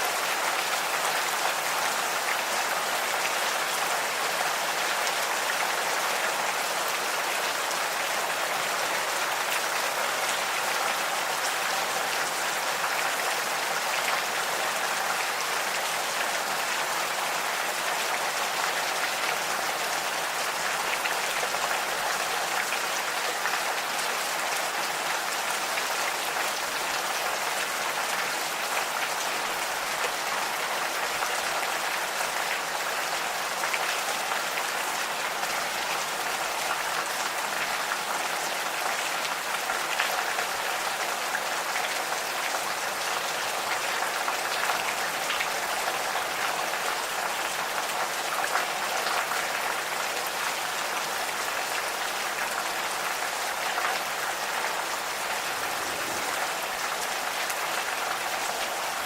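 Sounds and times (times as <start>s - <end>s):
gentle rain patter: 0.0s - 59.0s.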